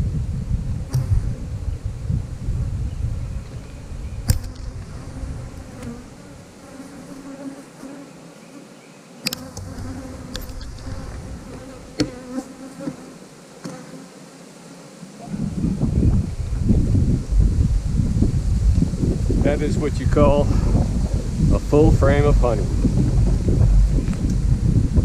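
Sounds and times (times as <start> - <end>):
honeybees buzzing: 0.5 - 24.9.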